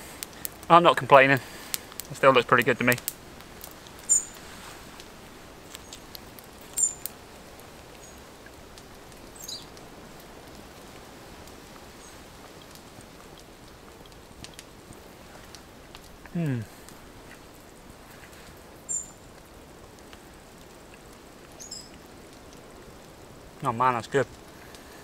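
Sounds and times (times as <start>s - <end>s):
sharp pops of fire: 0.0s - 23.3s
fire crackling: 0.0s - 25.0s
steady hiss: 0.0s - 25.0s.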